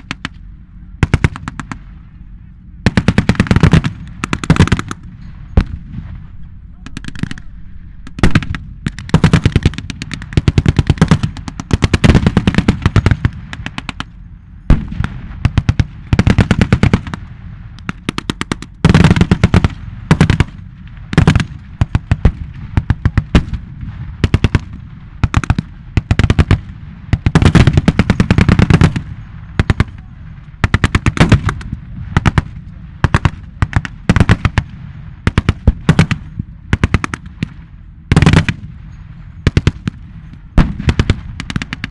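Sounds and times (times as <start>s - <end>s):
machine-gun fire: 1.0s - 1.8s, 2.8s - 6.1s, 8.1s - 37.5s, 38.1s - 38.7s, 39.4s - 40.0s, 40.6s - 41.9s.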